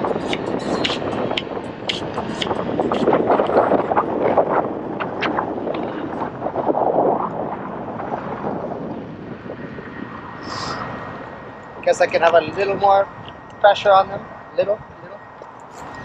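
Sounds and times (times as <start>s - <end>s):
wind buffeting motorcycle helmet: 0.0s - 16.0s.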